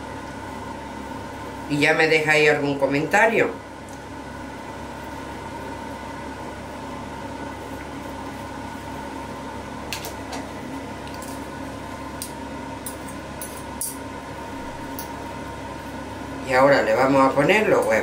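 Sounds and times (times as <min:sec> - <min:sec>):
appliance hum with whine: 0:00.0 - 0:18.0.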